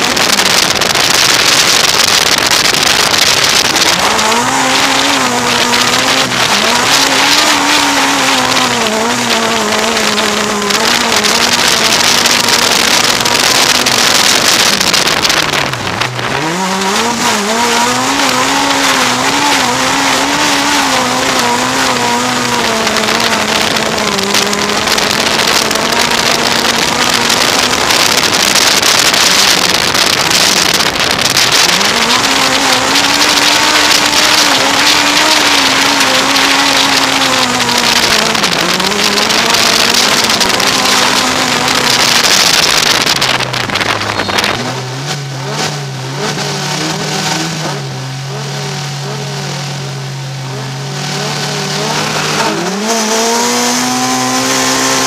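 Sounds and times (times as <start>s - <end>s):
loud rushing noise: 0.0s - 46.0s, 50.6s - 55.0s
car engine revving: 0.0s - 55.0s.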